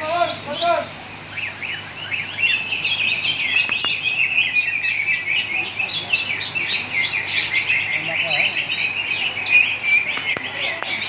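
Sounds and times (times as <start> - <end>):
many birds chirping and whistling: 0.0 - 11.0.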